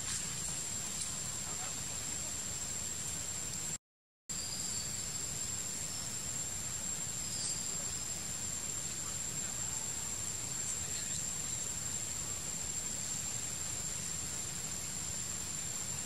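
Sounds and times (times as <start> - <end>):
forest ambience hiss: 0.0 - 16.0.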